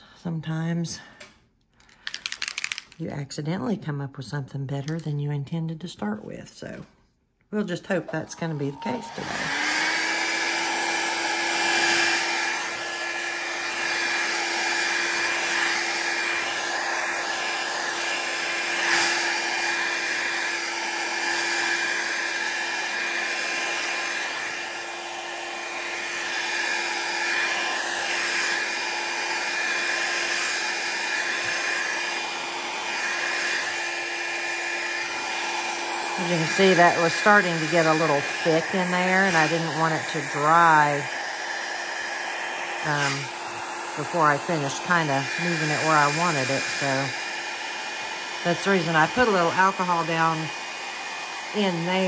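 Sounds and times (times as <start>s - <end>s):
hair dryer running: 7.9s - 52.0s.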